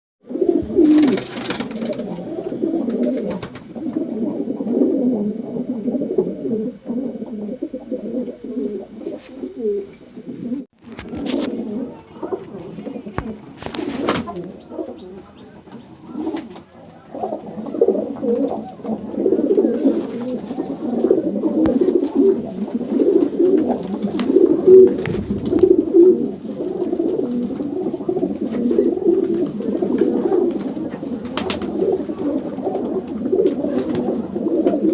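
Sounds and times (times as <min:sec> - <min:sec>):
pigeons cooing: 0:00.2 - 0:34.9.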